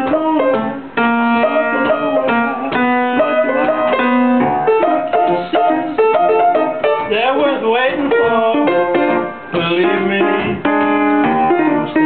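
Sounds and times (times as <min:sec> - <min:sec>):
person singing: 0:00.0 - 0:12.0
plucked string notes: 0:00.0 - 0:12.0.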